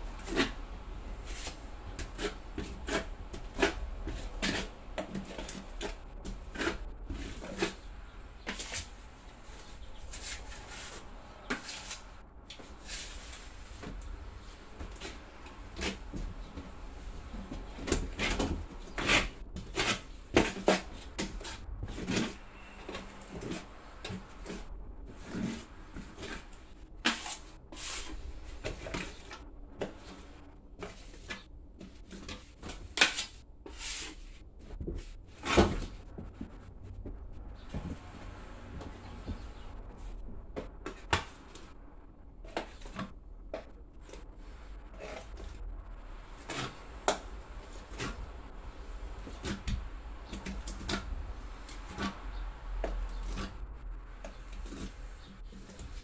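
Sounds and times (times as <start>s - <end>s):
drywall knife scraping: 0.0s - 36.1s, 42.4s - 45.6s, 46.2s - 56.0s.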